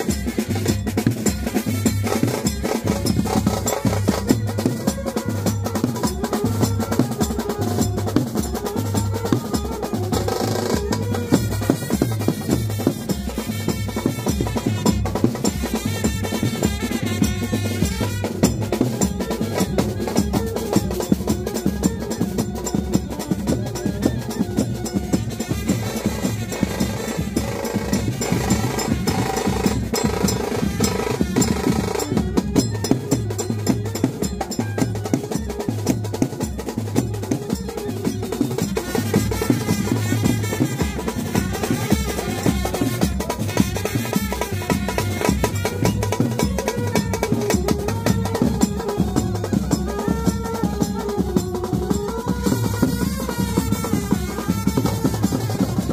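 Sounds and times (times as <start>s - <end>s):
fast dense drumming: 0.0s - 55.9s.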